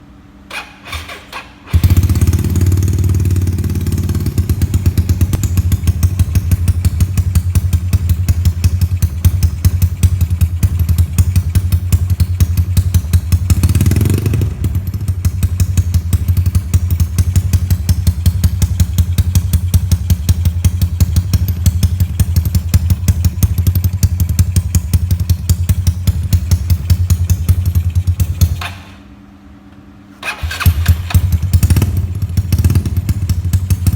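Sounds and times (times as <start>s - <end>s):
scooter engine idling and revving: 0.5s - 29.0s, 30.2s - 33.9s.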